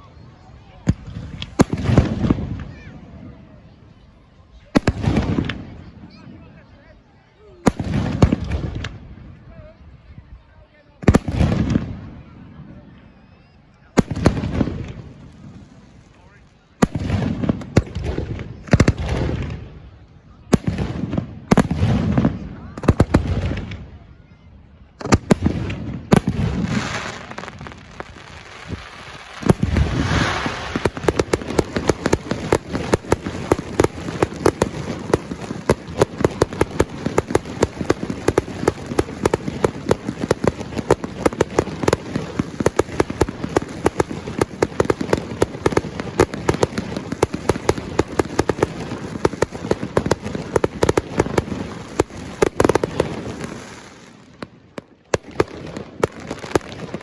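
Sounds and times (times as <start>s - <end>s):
fireworks crackling: 0.0s - 3.4s, 4.7s - 6.2s, 14.0s - 23.9s, 25.0s - 57.0s
firework bangs: 0.8s - 3.3s, 4.7s - 6.1s, 7.6s - 9.1s, 11.0s - 12.2s, 14.0s - 16.0s, 16.8s - 19.8s, 20.5s - 23.9s, 25.0s - 57.0s.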